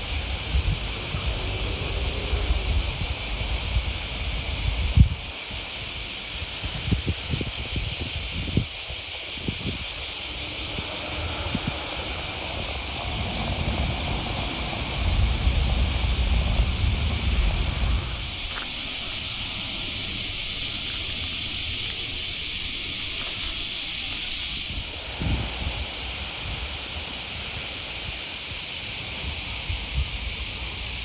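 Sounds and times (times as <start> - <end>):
pulsing insect chorus: 0.0 - 31.0
wind rumble on microphone: 0.0 - 31.0.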